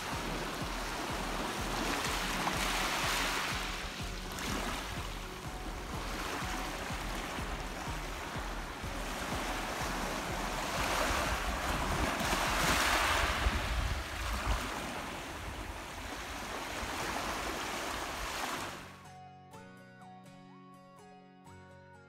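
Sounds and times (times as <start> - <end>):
wind rumble on microphone: 0.0 - 18.6
small waves lapping on gravel beach: 0.0 - 18.9.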